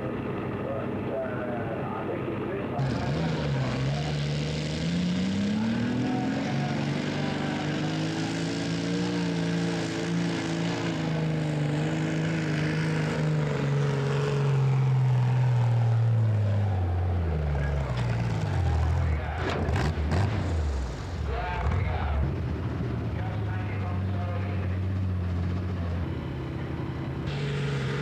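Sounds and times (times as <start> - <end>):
tractor engine revving: 0.0 - 28.0.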